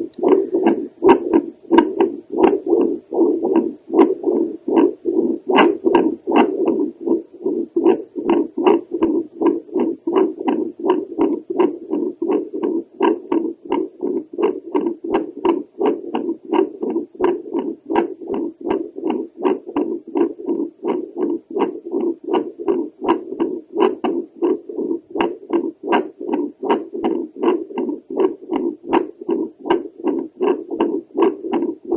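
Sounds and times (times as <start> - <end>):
heartbeat whooshing pulses: 0.0 - 31.9.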